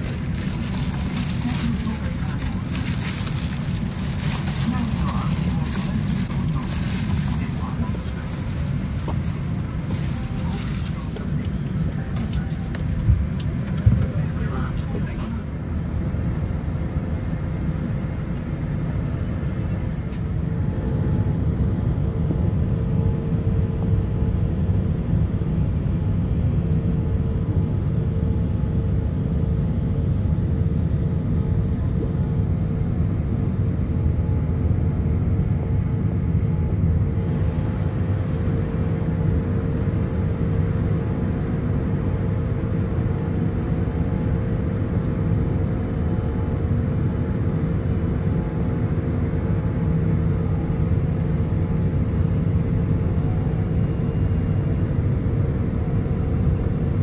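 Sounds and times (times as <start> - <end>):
jet engines idling in cabin: 0.0 - 57.0.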